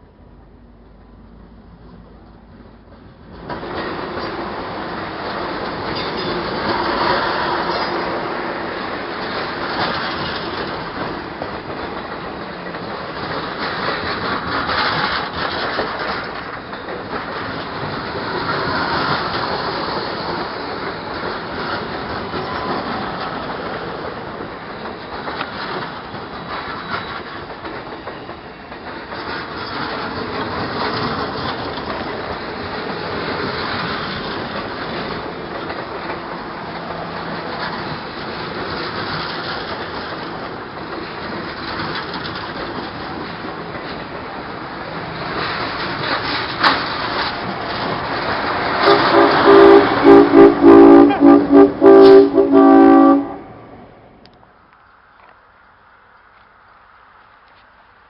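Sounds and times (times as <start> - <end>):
train wheels clattering on rails: 1.8 - 53.4.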